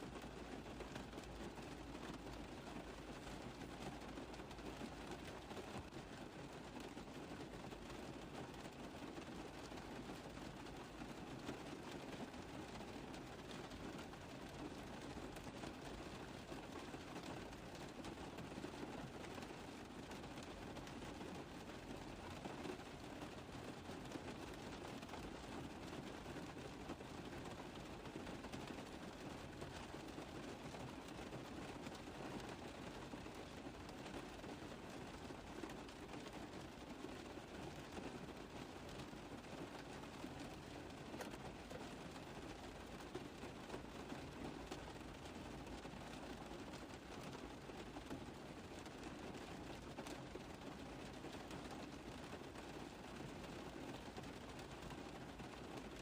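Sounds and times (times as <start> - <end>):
rain on a car roof: 0.0 - 56.0.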